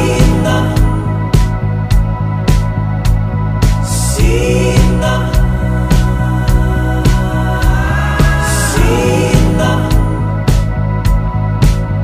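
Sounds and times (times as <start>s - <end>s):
instrumental pop ballad: 0.0s - 12.0s.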